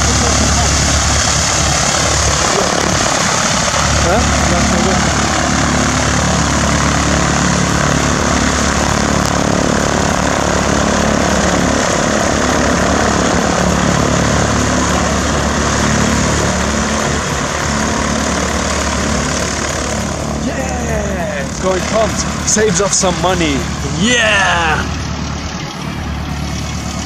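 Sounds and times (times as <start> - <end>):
propeller plane engine taxiing: 0.0 - 27.0.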